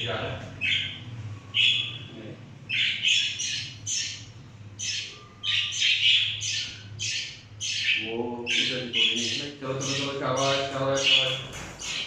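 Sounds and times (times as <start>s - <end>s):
parrots squawking: 0.0s - 12.0s.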